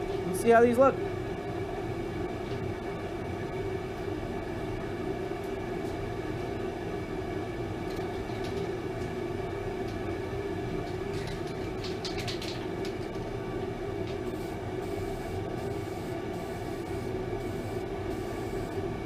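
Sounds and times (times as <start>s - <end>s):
machine droning hum: 0.0s - 19.0s.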